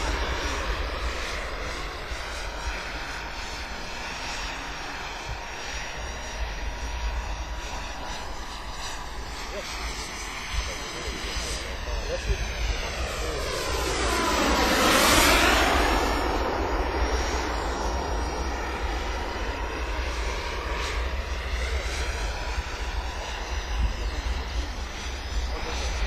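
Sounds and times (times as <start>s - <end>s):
model jet flying past: 0.0s - 26.0s.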